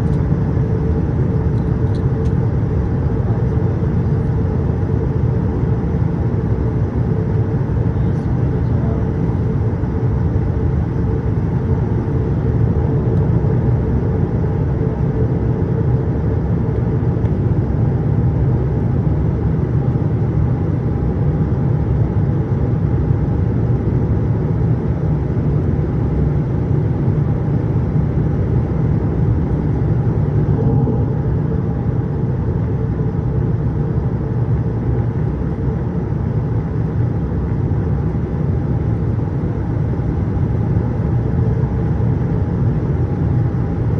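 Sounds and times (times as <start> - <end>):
airliner cabin engine rumble: 0.0 - 43.9
faint steady hum: 0.0 - 43.9.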